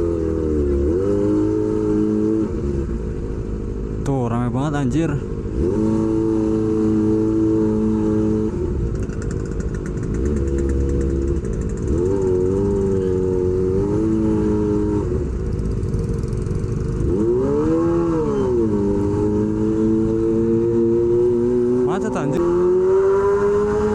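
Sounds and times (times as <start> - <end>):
motorcycle engine at low revs: 0.0 - 23.9.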